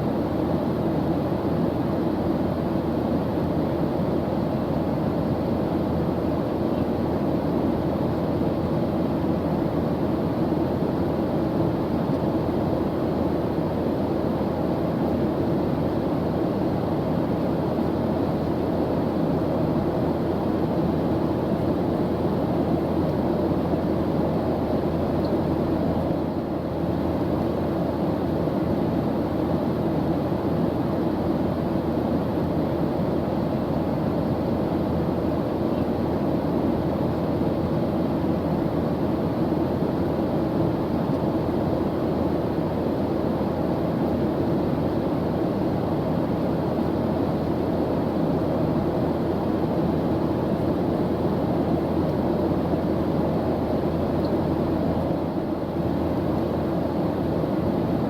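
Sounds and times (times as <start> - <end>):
airplane engine drone: 0.0 - 58.0.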